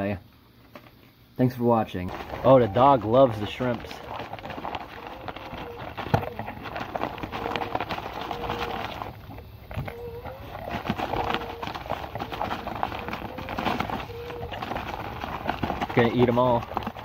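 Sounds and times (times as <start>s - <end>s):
dog crunching snacks: 2.1s - 17.0s.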